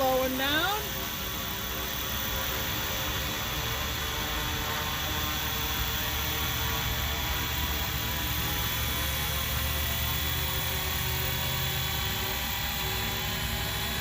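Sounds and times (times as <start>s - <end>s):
rc helicopter motor whine: 0.0s - 14.0s
rotor hum: 0.0s - 14.0s.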